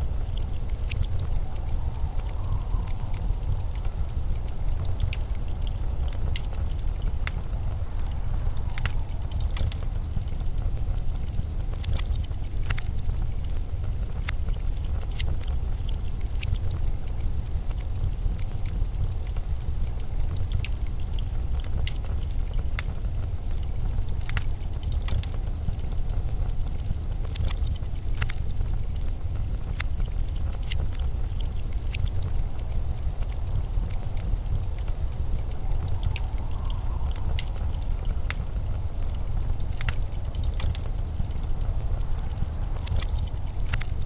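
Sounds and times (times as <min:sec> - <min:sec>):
blizzard wind rumble: 0:00.0 - 0:44.0
sharp clicks and crackles: 0:00.0 - 0:44.0.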